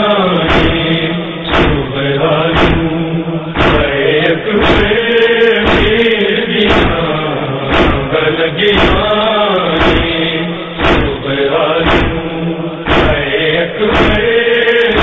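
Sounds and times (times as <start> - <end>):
man chanting a lament: 0.0 - 15.0
chest-beating slaps: 0.4 - 15.0.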